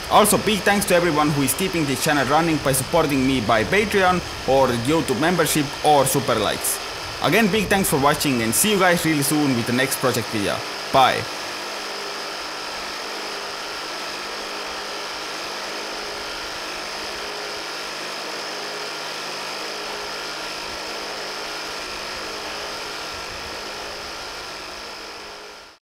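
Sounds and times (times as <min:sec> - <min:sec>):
electric motor whine: 0:00.0 - 0:25.8.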